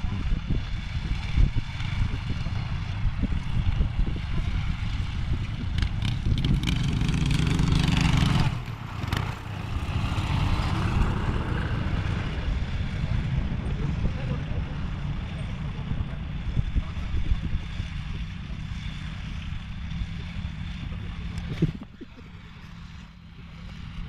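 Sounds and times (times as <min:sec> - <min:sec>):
garden tractor engines chugging: 0:00.1 - 0:24.0.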